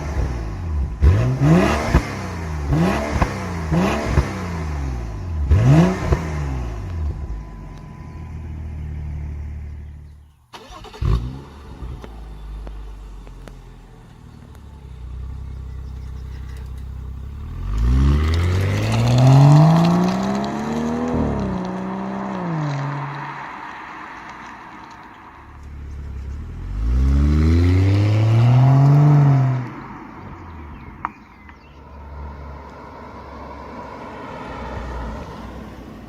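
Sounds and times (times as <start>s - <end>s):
car engine revving with crackles: 0.0s - 36.0s.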